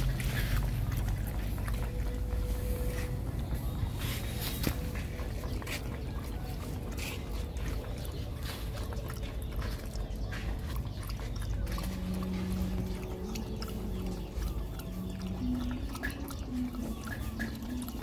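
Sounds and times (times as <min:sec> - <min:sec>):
dogs lapping water and eating: 0:00.0 - 0:18.0
steady low hum: 0:00.0 - 0:18.0.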